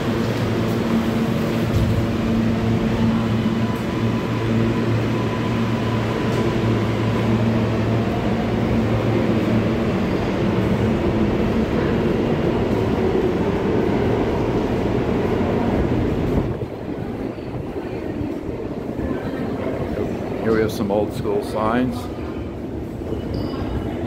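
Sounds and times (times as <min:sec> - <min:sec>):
subway train rumbling: 0:00.0 - 0:24.0.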